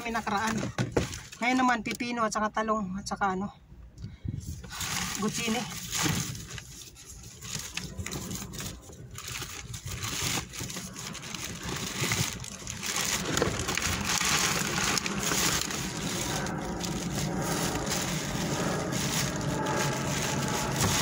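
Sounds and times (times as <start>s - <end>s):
plastic bags rustling and crinkling: 0.0s - 1.8s, 4.5s - 21.0s.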